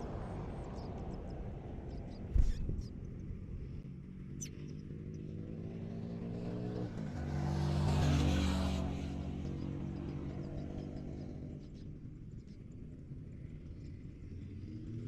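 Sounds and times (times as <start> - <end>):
vehicle engine hum passing: 0.0 - 15.0.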